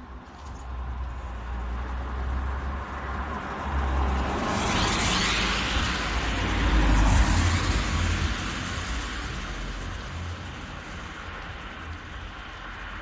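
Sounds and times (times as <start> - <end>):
tyre road noise: 0.0 - 13.0.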